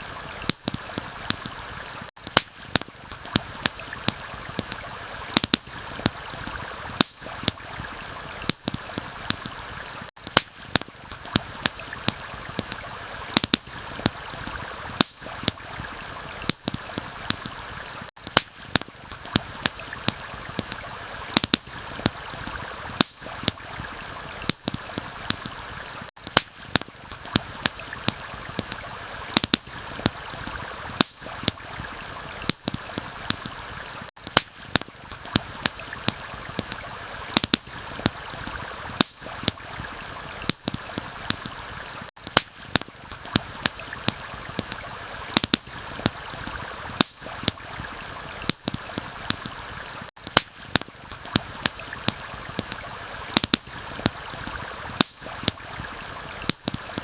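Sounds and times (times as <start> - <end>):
campfire crackling and popping: 0.0 - 57.0
rain: 0.0 - 57.0
stream water flowing: 0.0 - 57.0.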